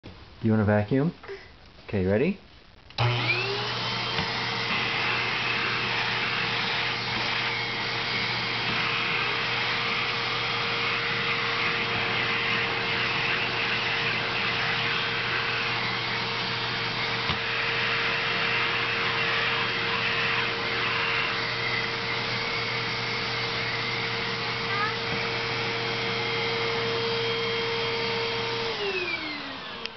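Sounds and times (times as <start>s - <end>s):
vacuum cleaner running: 3.0s - 29.9s.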